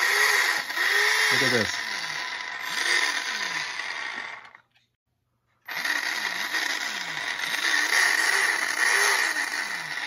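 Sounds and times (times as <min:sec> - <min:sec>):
electric motor whirring in spurts: 0:00.0 - 0:04.7, 0:05.6 - 0:10.0.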